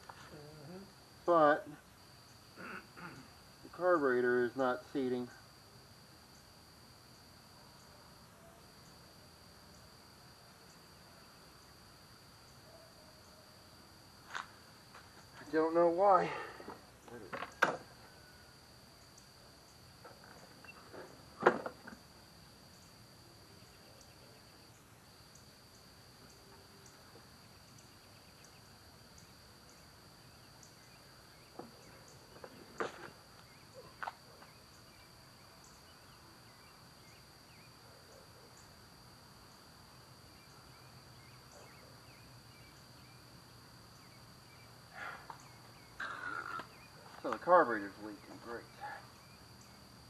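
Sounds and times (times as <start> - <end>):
high-pitched insect trill: 0.0 - 50.0.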